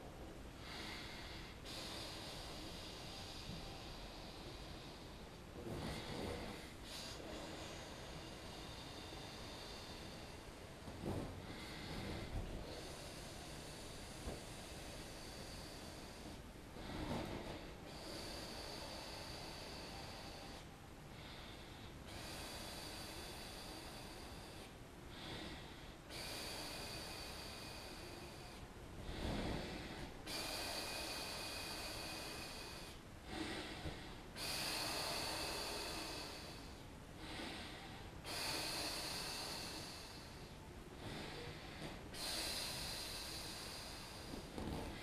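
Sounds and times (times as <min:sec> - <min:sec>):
person inhaling: 0:00.6 - 0:45.0.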